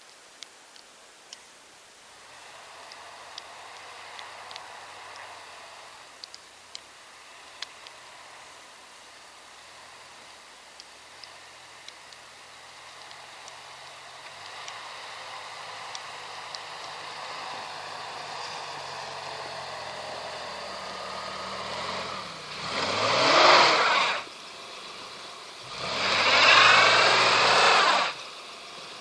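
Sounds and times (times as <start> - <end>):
tyres spinning in snow: 2.0 - 29.0
car engine revving: 2.1 - 29.0.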